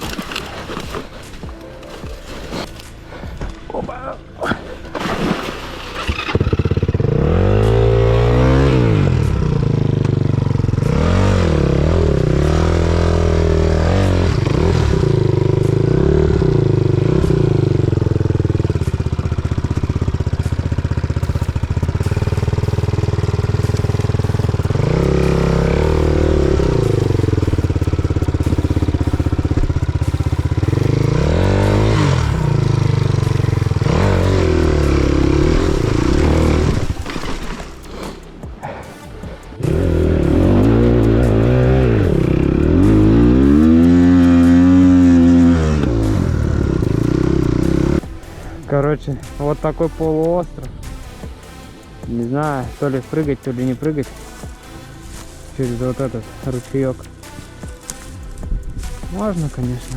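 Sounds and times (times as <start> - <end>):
motorcycle engine revving: 4.9 - 59.9.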